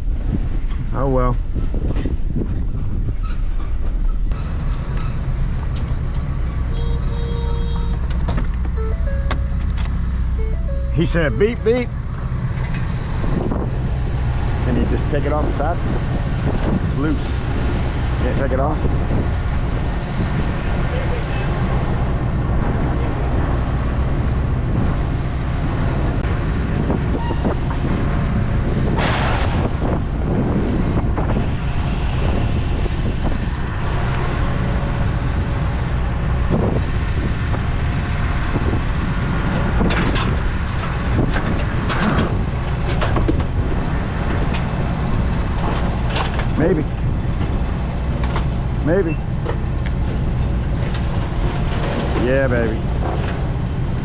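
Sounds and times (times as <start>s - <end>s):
heavy vehicle engine idling: 4.3s - 29.0s, 29.6s - 54.0s.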